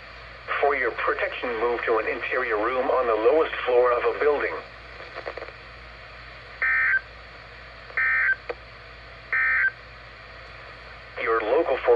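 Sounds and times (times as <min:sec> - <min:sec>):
radio receiver hiss: 0:00.0 - 0:11.9.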